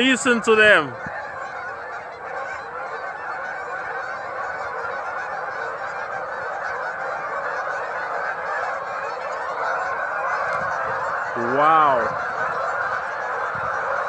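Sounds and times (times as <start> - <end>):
flock of ducks and geese calling: 0.0 - 14.0.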